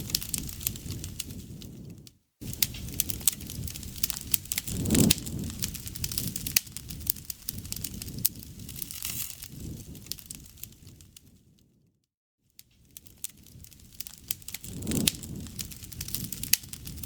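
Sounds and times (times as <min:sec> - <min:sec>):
campfire crackling and popping: 0:00.0 - 0:11.6, 0:12.7 - 0:17.0.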